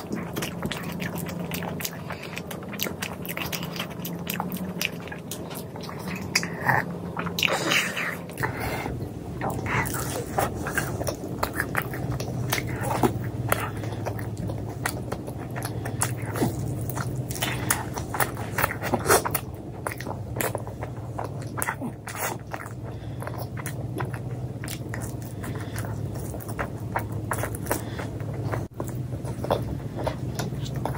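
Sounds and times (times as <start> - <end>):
person chewing food: 0.0 - 30.9
steady low hum: 0.0 - 30.9.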